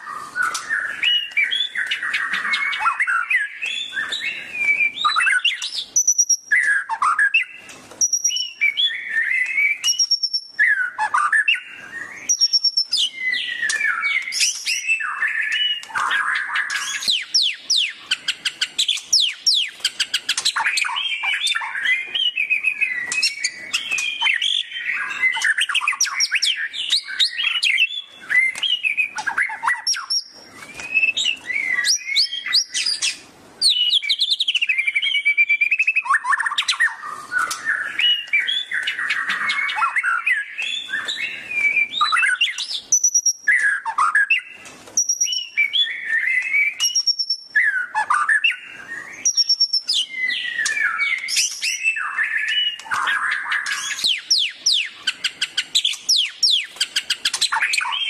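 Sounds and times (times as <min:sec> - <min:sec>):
bird singing rich whistles and trills: 0:00.0 - 0:58.0.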